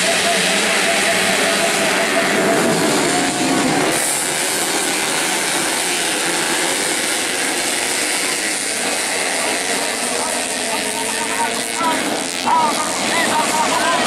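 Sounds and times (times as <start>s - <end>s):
racing motorcycles at high revs: 0.0s - 14.0s.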